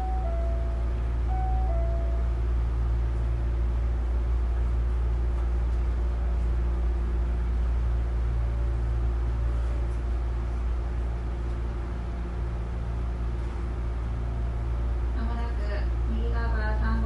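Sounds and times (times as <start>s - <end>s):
faint constant hum: 0.0s - 17.0s
train interior rumble: 0.0s - 17.0s.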